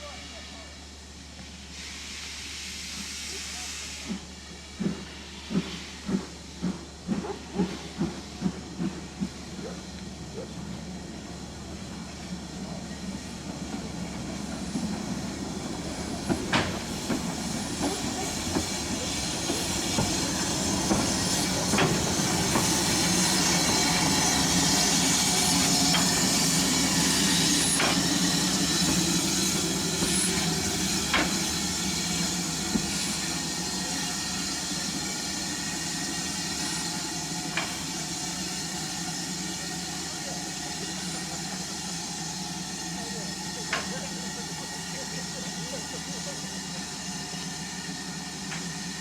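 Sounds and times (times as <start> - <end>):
steam train hissing: 0.0 - 49.0.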